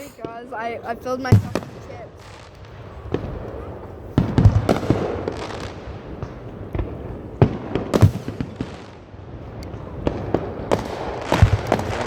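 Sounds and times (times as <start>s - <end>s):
fireworks bangs: 0.0s - 12.0s
low rumble of fireworks: 0.0s - 12.0s.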